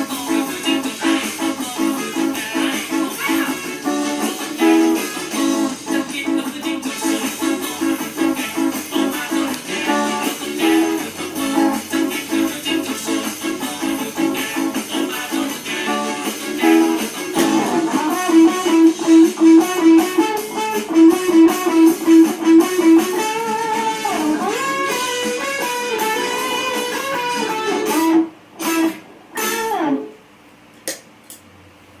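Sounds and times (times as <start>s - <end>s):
electric guitar melody: 0.0s - 30.2s.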